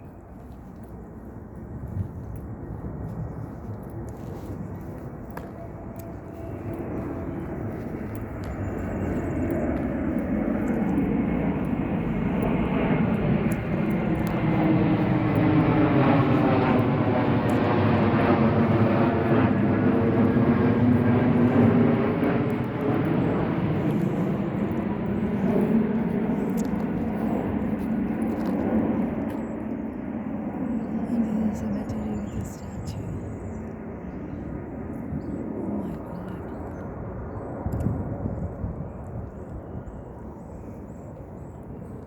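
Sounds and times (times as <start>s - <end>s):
aircraft rumbling overhead: 0.0s - 42.0s.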